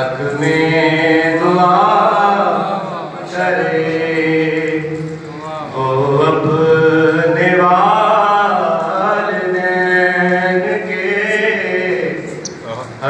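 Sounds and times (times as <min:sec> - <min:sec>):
man singing into microphone: 0:00.0 - 0:12.5.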